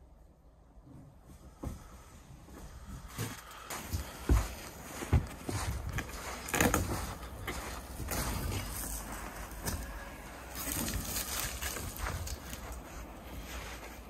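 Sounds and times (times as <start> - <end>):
footsteps crunching in snow: 1.9 - 14.0.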